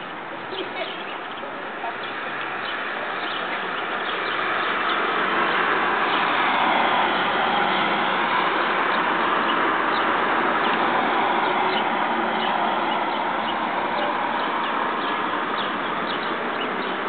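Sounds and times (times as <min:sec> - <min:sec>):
distant road traffic hum: 0:00.0 - 0:17.0.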